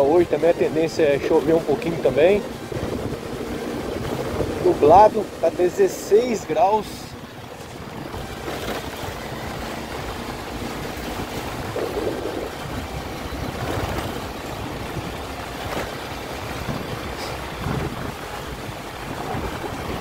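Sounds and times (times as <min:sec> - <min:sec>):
wind buffeting microphone: 0:00.8 - 0:05.4, 0:07.1 - 0:20.0.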